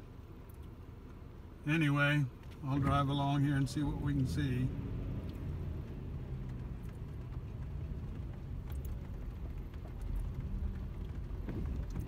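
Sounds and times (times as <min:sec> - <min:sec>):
truck engine rumble from cab: 0:00.0 - 0:12.0.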